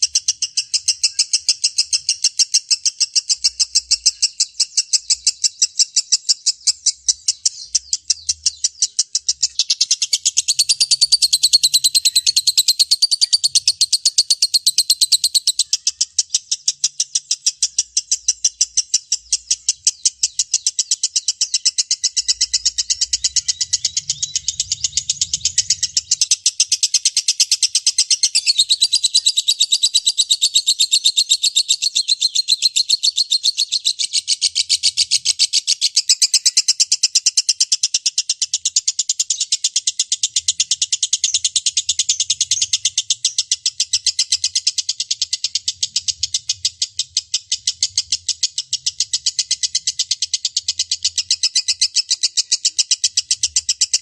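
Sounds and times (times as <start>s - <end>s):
lovebird chattering song: 0.0s - 54.0s.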